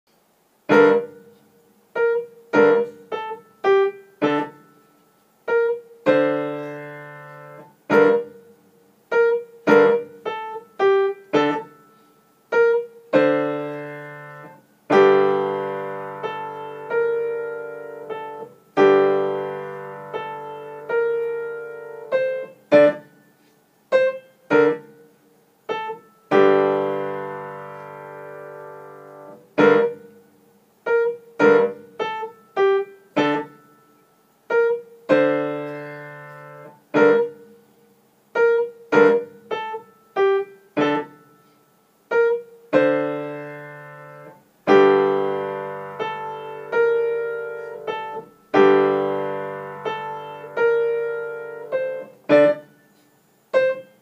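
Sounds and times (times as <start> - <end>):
beginner piano piece: 0.1 - 54.0.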